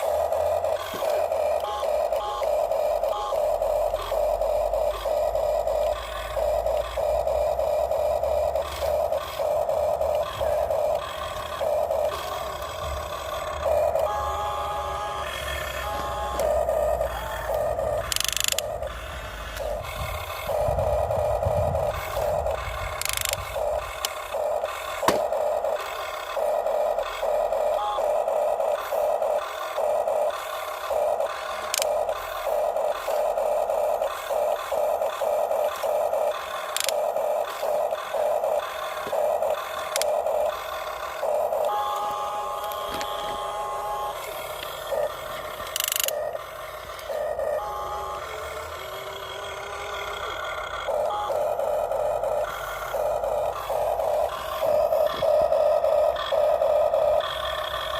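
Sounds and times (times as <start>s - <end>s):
toy excavator motors whining: 0.0s - 57.9s.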